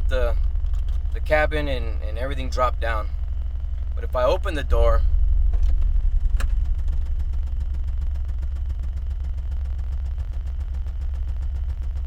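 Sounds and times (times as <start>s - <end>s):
deep bass test tone: 0.0s - 12.0s.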